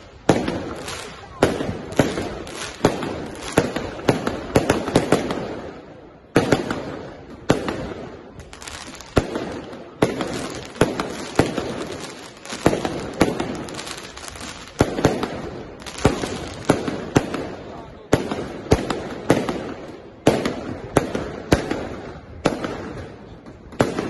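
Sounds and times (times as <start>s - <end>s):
fireworks bursting with sharp bangs: 0.0s - 24.0s.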